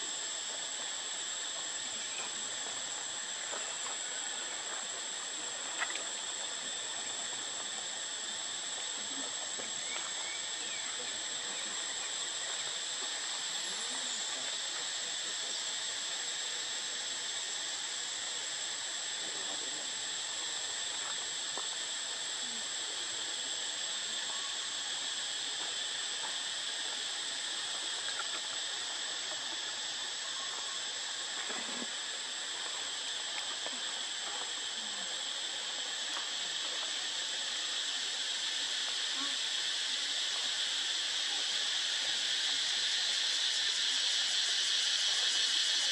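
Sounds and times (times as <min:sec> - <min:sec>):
insect chorus: 0:00.0 - 0:45.9.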